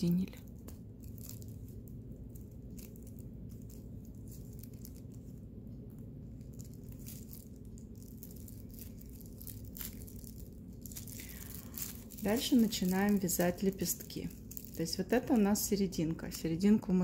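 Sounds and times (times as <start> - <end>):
plastic yarn crinkling: 0.0 - 16.9
steady low hum: 0.0 - 17.0.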